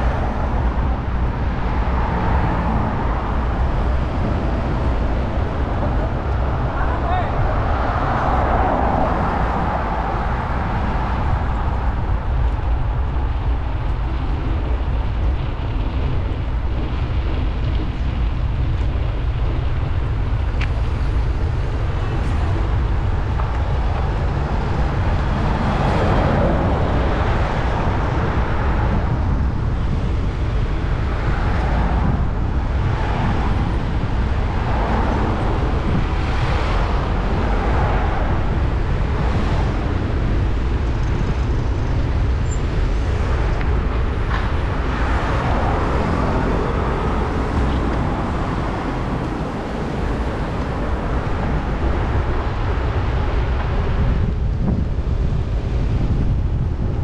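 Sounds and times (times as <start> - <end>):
traffic rumble: 0.0 - 57.0
vehicles passing close by: 0.0 - 57.0.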